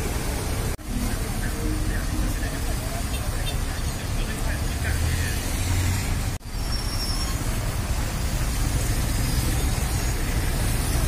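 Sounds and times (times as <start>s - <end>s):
traffic engines rumbling: 0.0s - 11.0s
tyres hissing on wet asphalt: 0.0s - 11.0s.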